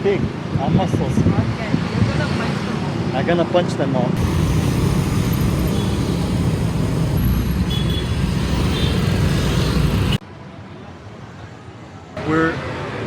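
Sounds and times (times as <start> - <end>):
dense road traffic: 0.0 - 13.0.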